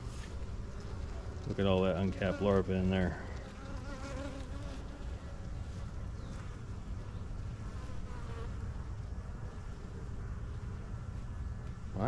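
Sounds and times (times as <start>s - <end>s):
honeybees buzzing: 0.0s - 11.4s.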